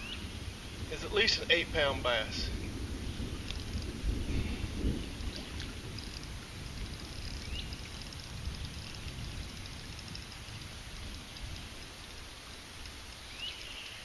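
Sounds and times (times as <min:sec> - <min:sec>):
low rumble: 0:00.0 - 0:12.0
steady hiss: 0:00.0 - 0:14.0.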